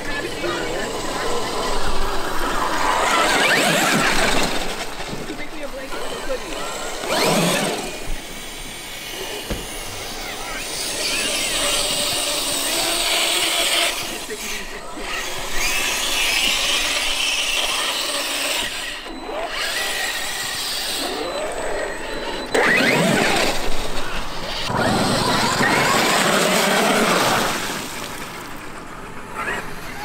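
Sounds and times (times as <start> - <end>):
electric motor whining: 0.0 - 28.5.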